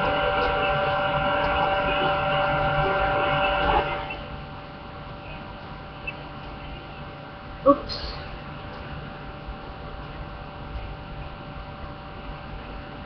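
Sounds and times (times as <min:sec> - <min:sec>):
steady high-toned hum: 0:00.0 - 0:13.0.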